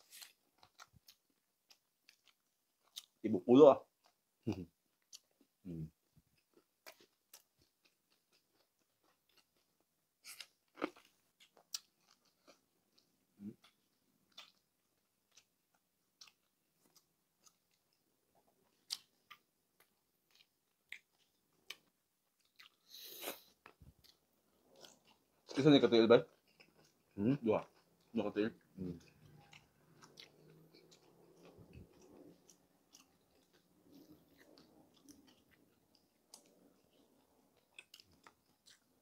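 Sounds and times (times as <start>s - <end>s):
chewing crispy pork skin: 0.0s - 5.8s, 6.4s - 18.0s, 18.6s - 39.0s.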